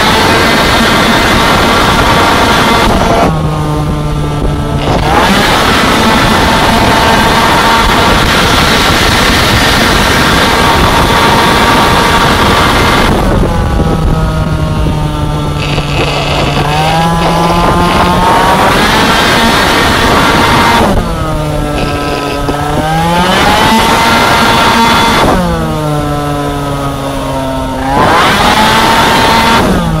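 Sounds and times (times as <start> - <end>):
two-stroke scooter engine accelerating: 0.0 - 30.0
wind rush: 0.0 - 30.0.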